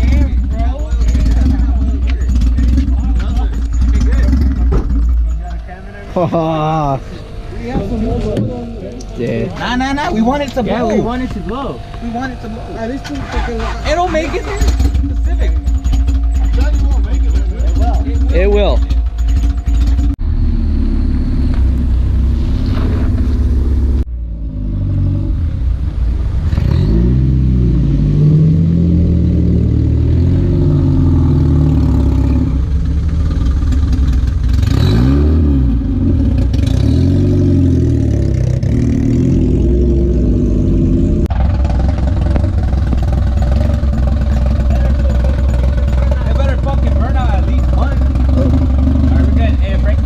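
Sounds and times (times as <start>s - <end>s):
knocking car engine revving: 0.0s - 9.0s, 9.6s - 24.1s, 26.4s - 50.0s.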